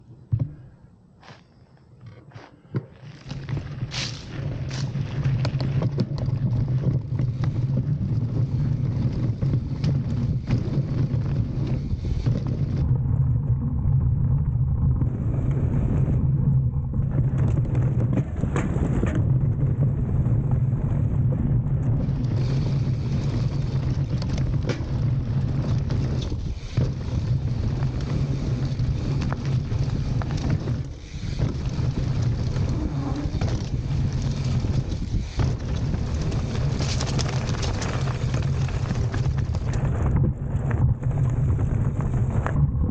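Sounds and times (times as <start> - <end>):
bike tyres rumbling on trail: 0.0 - 42.9
bike rattling over bumps: 2.0 - 42.9
wind on microphone: 3.4 - 42.9.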